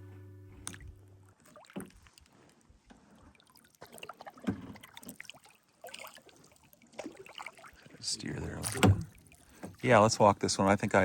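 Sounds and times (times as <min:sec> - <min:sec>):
paddle splashing in water: 0:00.6 - 0:11.0.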